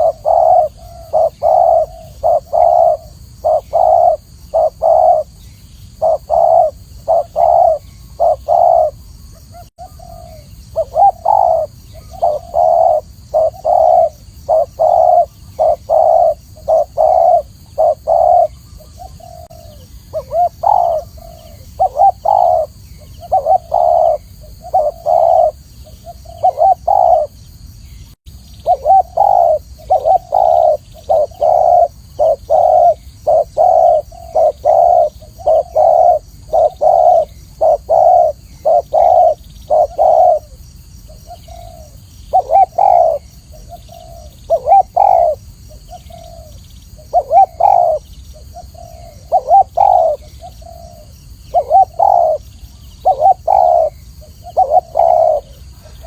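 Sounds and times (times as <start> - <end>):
dove cooing: 0.0 - 27.4, 28.6 - 56.0.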